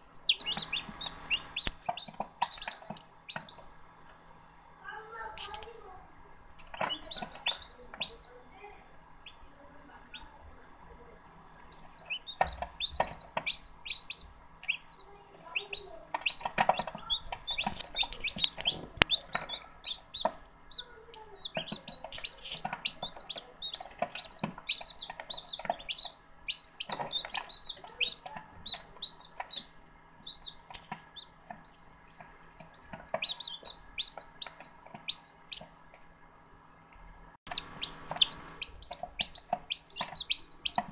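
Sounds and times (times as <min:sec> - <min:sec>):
chicks peeping: 0:00.0 - 0:40.9
faint steady hum: 0:00.0 - 0:40.9.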